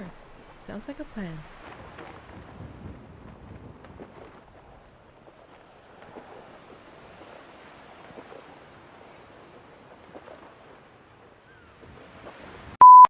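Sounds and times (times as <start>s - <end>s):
waves washing against shore: 0.0s - 12.8s
wind: 0.0s - 12.8s.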